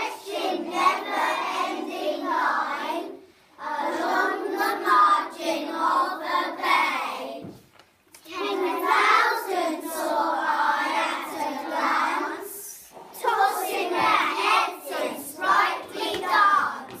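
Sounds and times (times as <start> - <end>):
young children singing: 0.0 - 7.6, 8.2 - 17.0.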